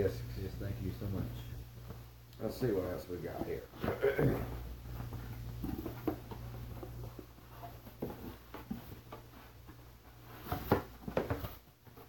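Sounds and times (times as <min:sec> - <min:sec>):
faint low hum: 0:00.0 - 0:12.0
cardboard rustling and scraping: 0:01.0 - 0:12.0.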